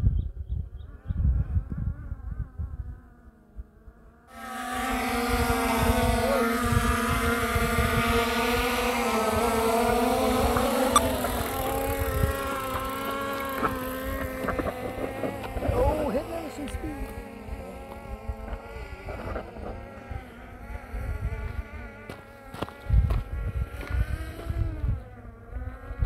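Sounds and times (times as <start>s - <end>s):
motor buzzing at high speed: 0.3s - 26.0s.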